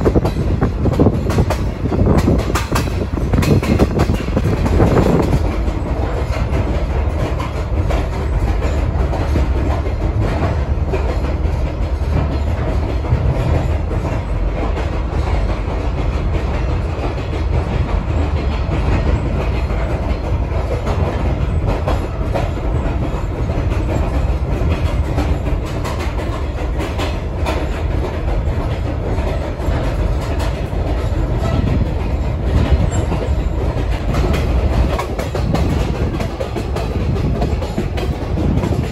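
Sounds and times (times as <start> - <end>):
railcar rumbling: 0.0 - 38.9
wheels clicking on rails: 0.0 - 38.9.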